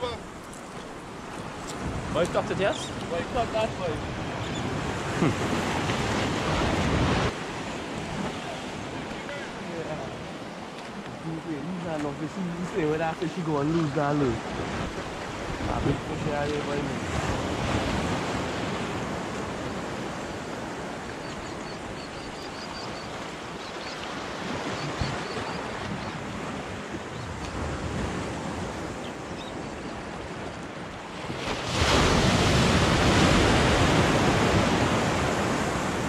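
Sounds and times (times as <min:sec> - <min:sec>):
sea surf washing against rocks: 0:00.0 - 0:21.2, 0:23.0 - 0:36.0.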